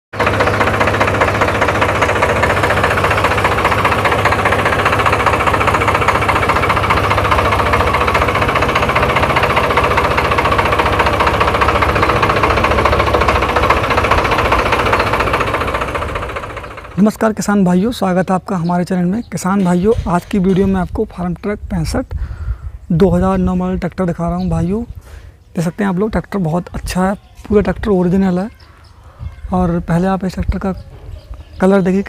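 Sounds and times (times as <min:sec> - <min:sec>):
tractor diesel engine running: 0:00.1 - 0:32.0.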